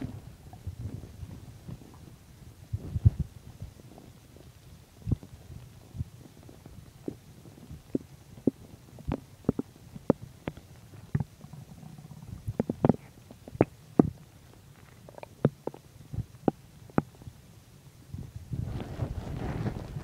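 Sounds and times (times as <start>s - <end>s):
stomach gurgling: 0.0s - 17.5s.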